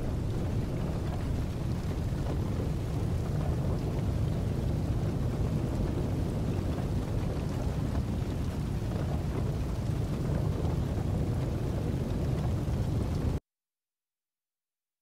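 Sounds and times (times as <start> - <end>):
large fire rumbling: 0.0 - 13.4.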